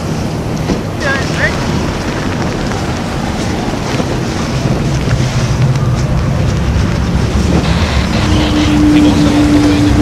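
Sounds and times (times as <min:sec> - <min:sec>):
motorboat engine running: 0:00.0 - 0:10.0
wind buffeting microphone: 0:00.0 - 0:10.0.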